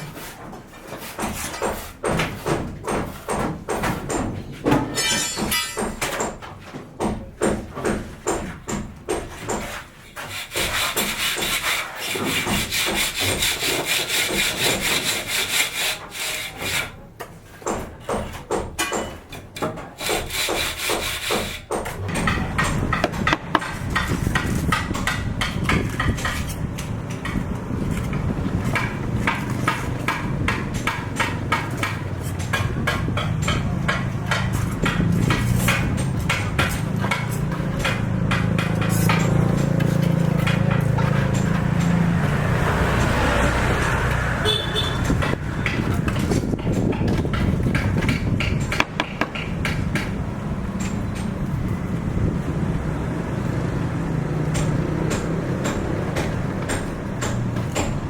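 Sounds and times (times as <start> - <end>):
hand tool scraping: 0.0 - 6.8, 7.9 - 51.9.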